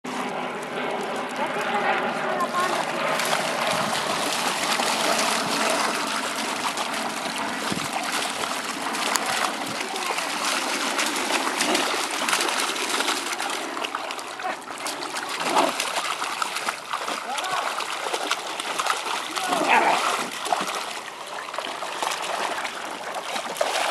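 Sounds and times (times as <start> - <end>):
puppies splashing in water: 0.6 - 23.9.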